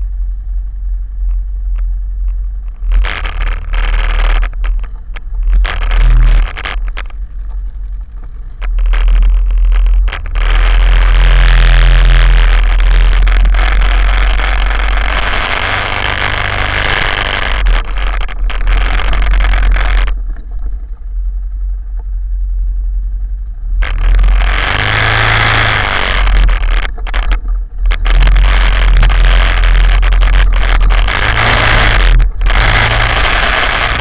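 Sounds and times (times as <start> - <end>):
quad bike engine drone: 0.0 - 34.0.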